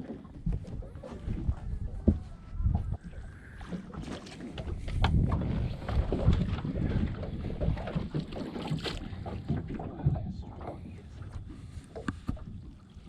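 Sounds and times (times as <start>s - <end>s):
wind buffeting microphone: 0.1s - 12.7s.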